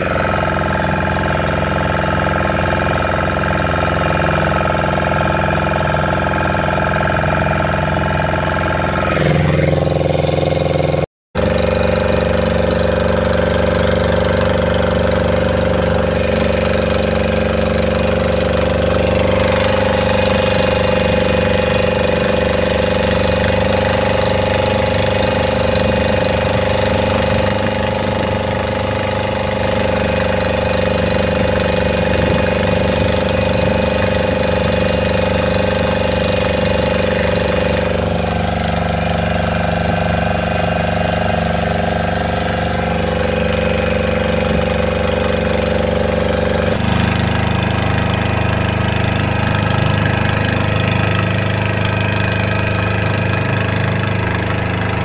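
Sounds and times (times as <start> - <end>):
small boat engine running: 0.0 - 55.0.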